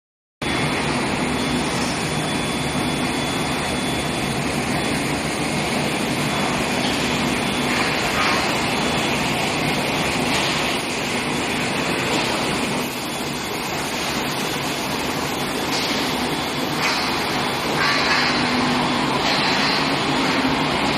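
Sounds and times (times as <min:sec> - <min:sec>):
machinery hum and whine: 0:00.4 - 0:20.9.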